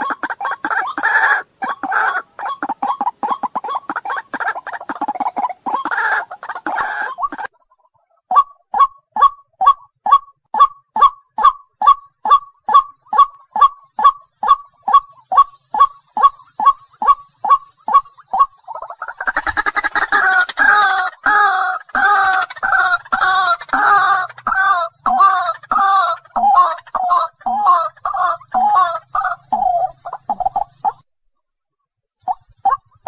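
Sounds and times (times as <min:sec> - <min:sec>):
bird calling: 0:00.0 - 0:31.1.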